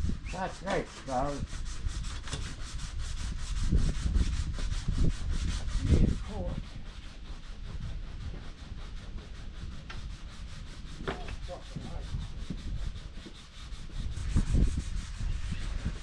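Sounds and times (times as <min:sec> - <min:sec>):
sandpaper rubbing a surface: 0:00.0 - 0:16.0.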